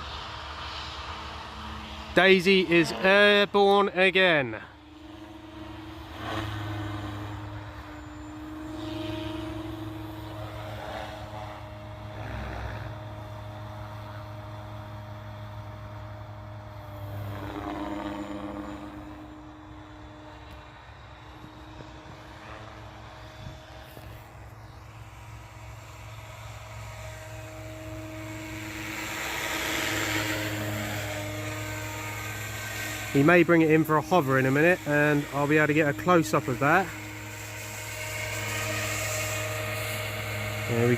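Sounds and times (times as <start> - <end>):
rc helicopter rotor drone: 0.0 - 40.9.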